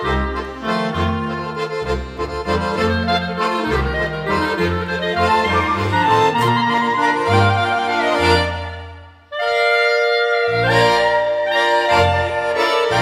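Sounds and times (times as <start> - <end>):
accordion bass and chords: 0.0 - 13.0
clarinets playing melody: 0.0 - 13.0.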